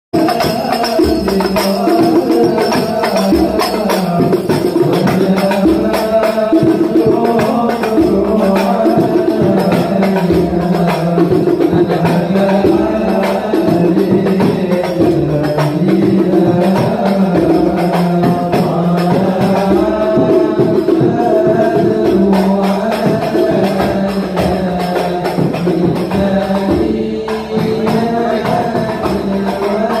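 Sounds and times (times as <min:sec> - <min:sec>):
frame drum with jingles: 0:00.2 - 0:30.0
men chanting in unison: 0:00.2 - 0:30.0.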